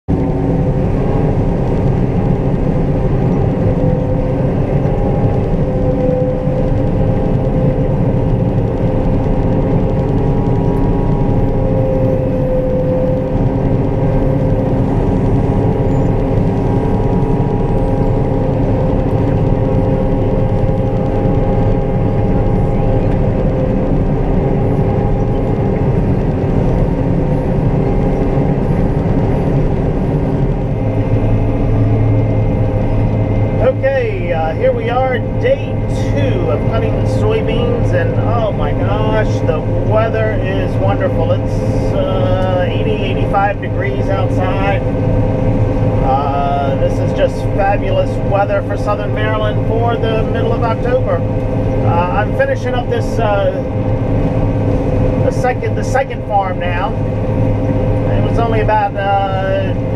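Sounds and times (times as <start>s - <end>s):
combine harvester drone: 0.1s - 59.9s.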